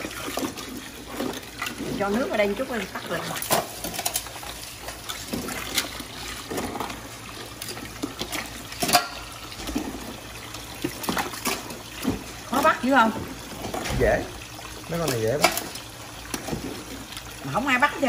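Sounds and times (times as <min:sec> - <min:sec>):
water splashing and dripping: 0:00.0 - 0:18.0.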